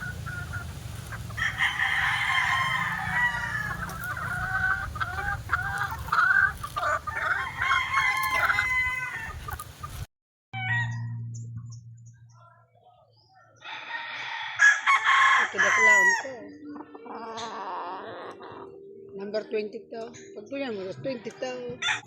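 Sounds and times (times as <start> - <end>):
roosters crowing and clucking: 0.0 - 11.1, 13.6 - 19.2, 20.8 - 22.0.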